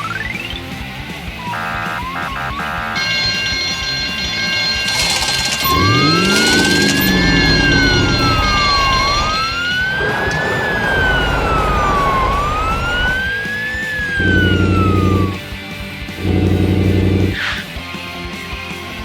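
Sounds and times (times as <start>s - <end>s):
emergency siren wailing: 0.0s - 17.6s
vehicle engine rumble: 0.7s - 17.4s
loud low steady tone: 1.4s - 15.6s, 16.2s - 17.4s.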